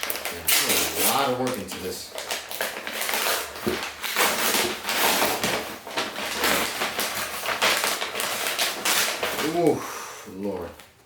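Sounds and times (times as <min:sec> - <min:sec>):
packaging rustling and crinkling: 0:00.0 - 0:09.8.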